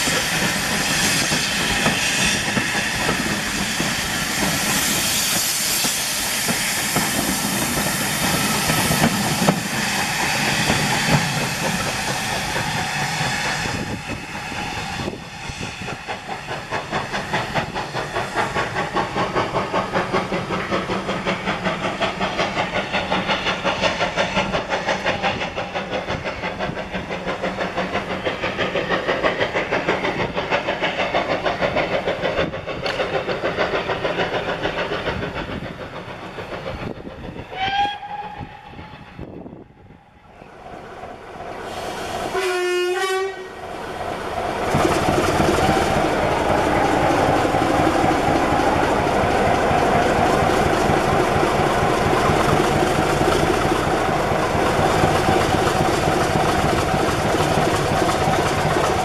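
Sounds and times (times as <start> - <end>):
steam locomotive chuffing: 0.0 - 59.0
train coaches hissing and rumbling: 0.0 - 59.0.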